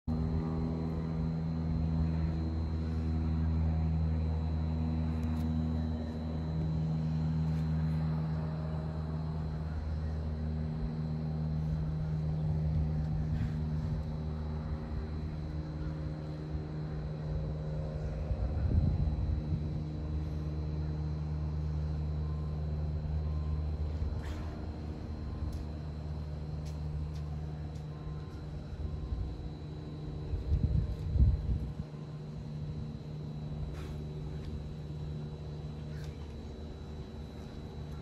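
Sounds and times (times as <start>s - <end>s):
engine droning: 0.1s - 38.0s
high whine: 0.1s - 38.0s.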